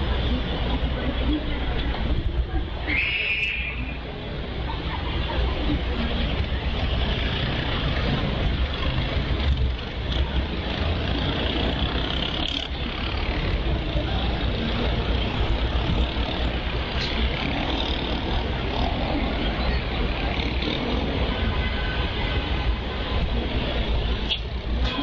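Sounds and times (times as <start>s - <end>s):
faint voices: 0.0s - 25.0s
road traffic rumble: 0.0s - 25.0s.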